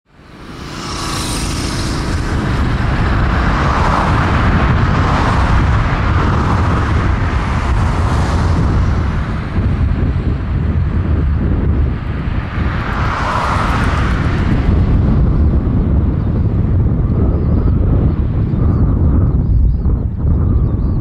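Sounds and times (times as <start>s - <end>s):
jet engine roar: 0.1s - 19.4s.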